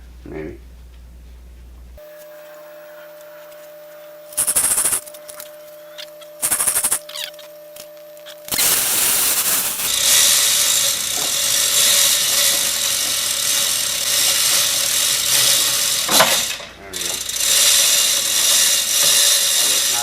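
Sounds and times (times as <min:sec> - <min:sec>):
power tool whirring: 0:02.0 - 0:20.0.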